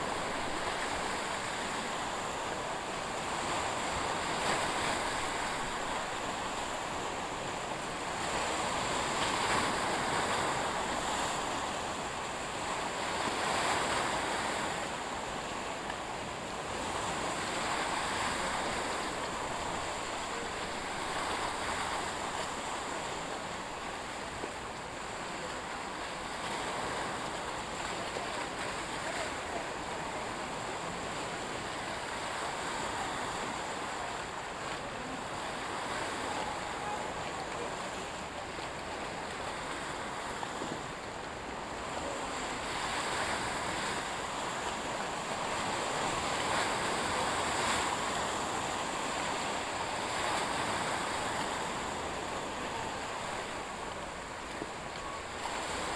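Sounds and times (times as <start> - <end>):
sea waves washing ashore: 0.0 - 55.9.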